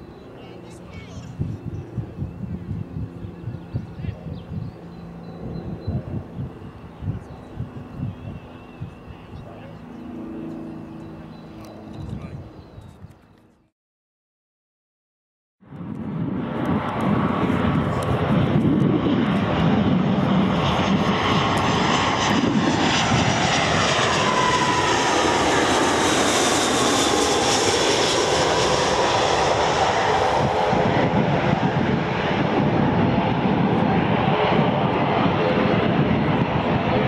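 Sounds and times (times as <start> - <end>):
jet airliner passing overhead: 0.0 - 13.5, 15.6 - 37.0.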